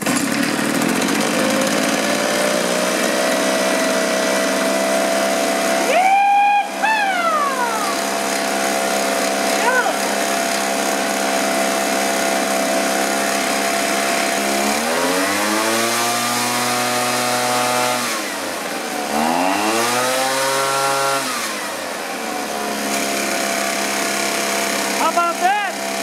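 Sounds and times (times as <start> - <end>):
leaf blower engine idling and revving: 0.0 - 26.0.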